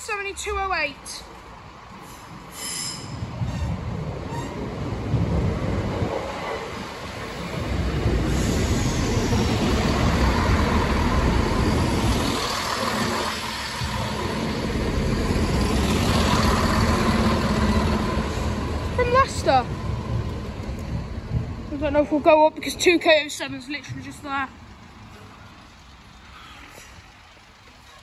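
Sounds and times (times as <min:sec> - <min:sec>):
train engine running: 0:00.0 - 0:28.0
train wheels rumbling on rails: 0:00.0 - 0:28.0.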